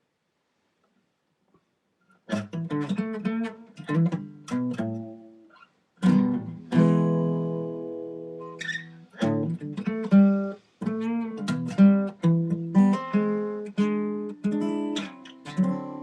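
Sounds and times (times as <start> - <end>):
guitar plucked notes and chords: 2.3 - 16.0.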